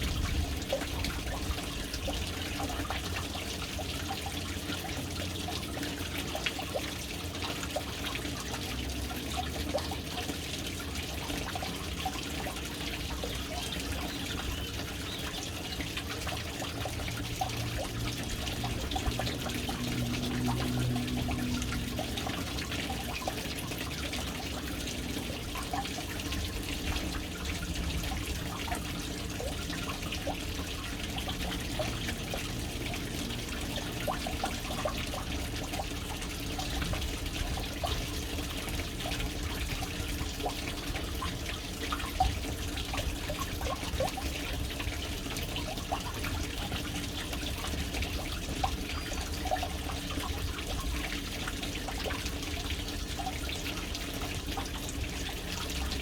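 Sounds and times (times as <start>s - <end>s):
water trickling into tank: 0.0s - 56.0s.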